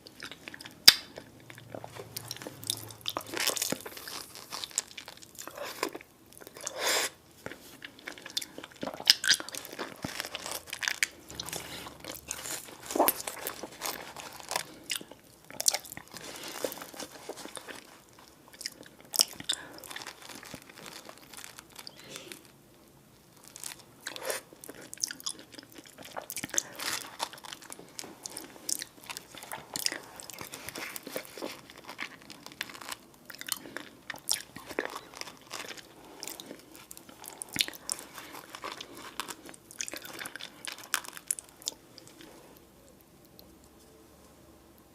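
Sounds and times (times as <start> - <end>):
person chewing food: 0.0 - 22.6, 23.3 - 43.8.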